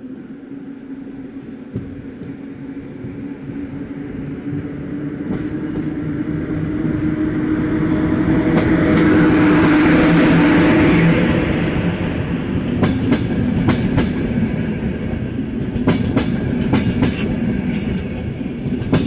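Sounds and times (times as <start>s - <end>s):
electric locomotive passing: 0.0s - 19.0s.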